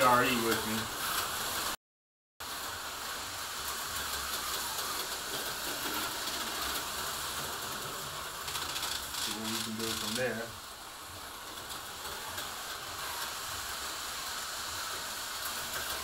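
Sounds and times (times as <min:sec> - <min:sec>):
model train motor humming: 0:02.4 - 0:16.0.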